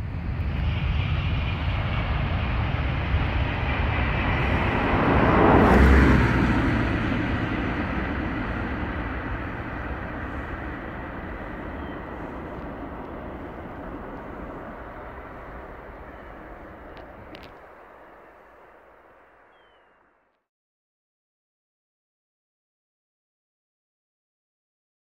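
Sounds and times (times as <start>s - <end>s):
high-speed train passing: 0.0s - 20.2s.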